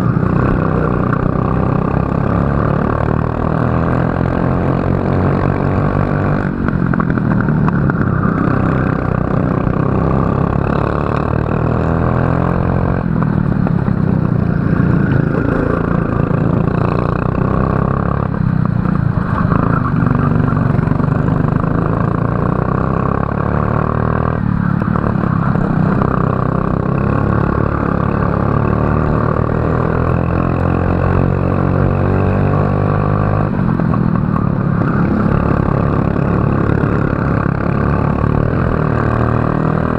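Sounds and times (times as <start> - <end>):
kart engine accelerating: 0.0 - 39.9.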